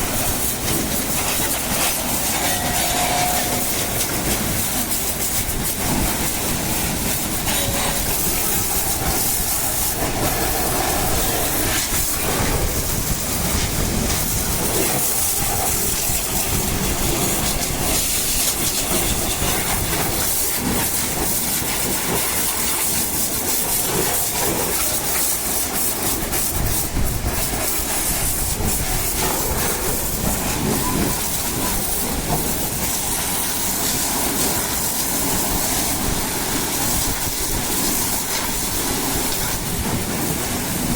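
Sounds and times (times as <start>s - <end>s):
water spray hissing on metal: 0.0s - 40.9s.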